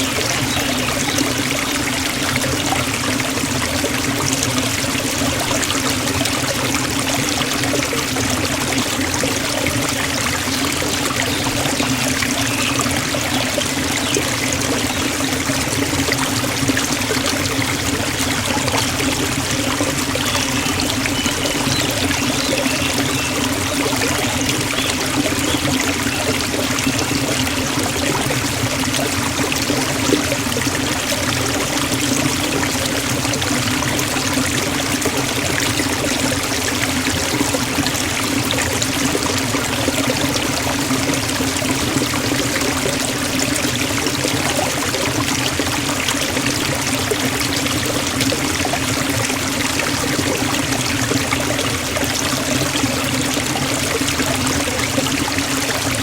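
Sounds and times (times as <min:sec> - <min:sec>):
waterfall splashing: 0:00.0 - 0:56.0.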